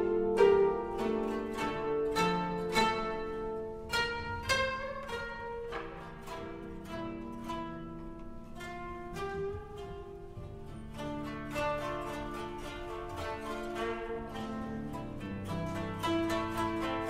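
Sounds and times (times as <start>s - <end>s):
koto ensemble playing: 0.0s - 17.0s.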